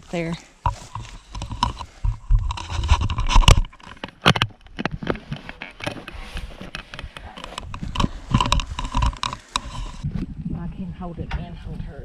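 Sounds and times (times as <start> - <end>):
low rumbling: 0.0 - 12.0.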